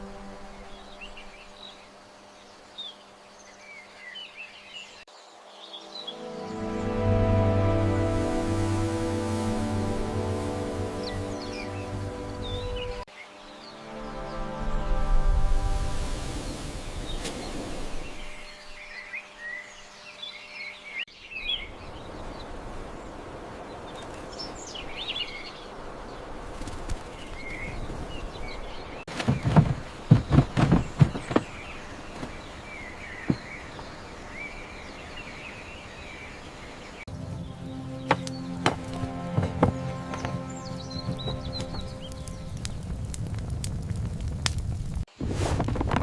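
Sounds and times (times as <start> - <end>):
birds chirping: 0.0 - 14.8, 16.4 - 43.4
outdoor background hiss: 0.0 - 42.6.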